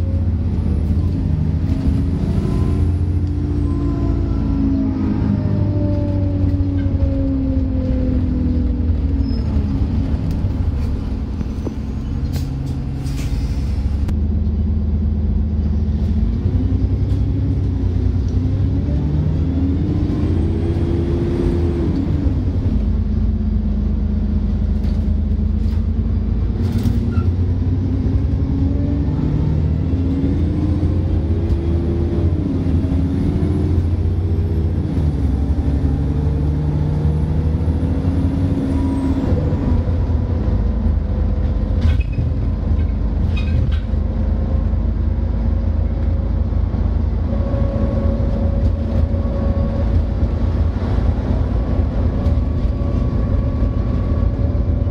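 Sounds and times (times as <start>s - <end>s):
bus engine revving: 0.0s - 54.9s.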